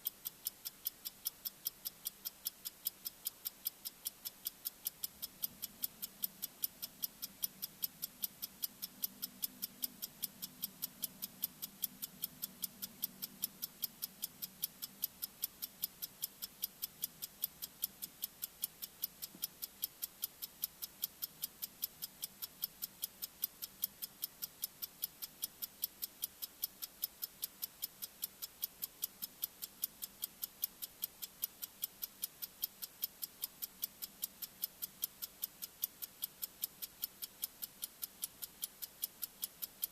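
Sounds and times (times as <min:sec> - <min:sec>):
rapid timer ticking: 0:00.0 - 0:39.9.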